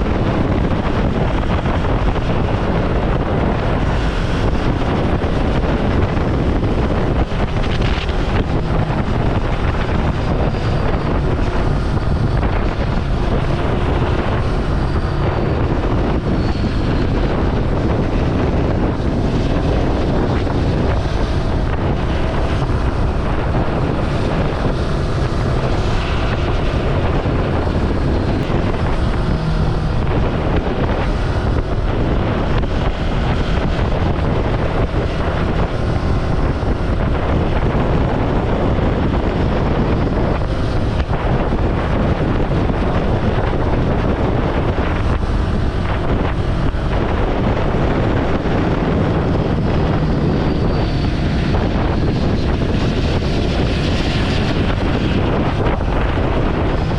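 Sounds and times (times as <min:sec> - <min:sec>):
motorcycle engine running: 0:00.0 - 0:56.9
wind rush over microphone: 0:00.0 - 0:56.9.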